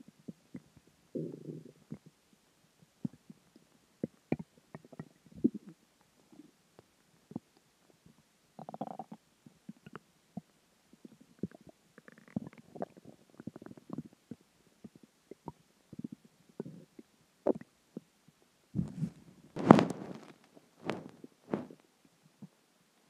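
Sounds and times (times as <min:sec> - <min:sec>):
stomach growling and gurgling: 0:00.0 - 0:06.6, 0:07.2 - 0:18.2, 0:18.8 - 0:22.6.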